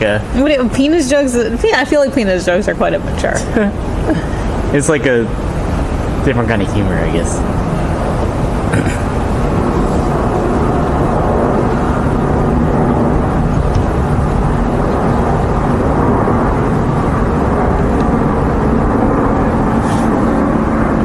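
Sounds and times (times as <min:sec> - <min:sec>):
low city background rumble: 0:00.0 - 0:21.0.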